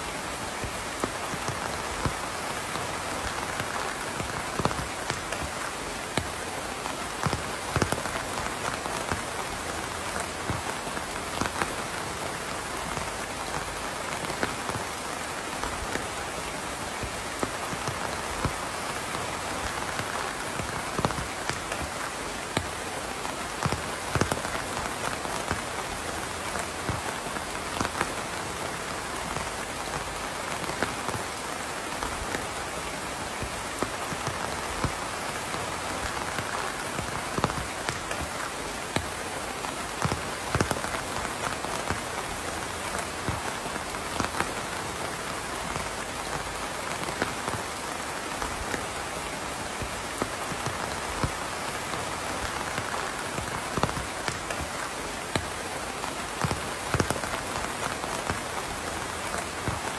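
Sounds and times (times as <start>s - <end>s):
raindrops landing close by: 0.0s - 59.9s
steady rain falling: 0.0s - 59.9s.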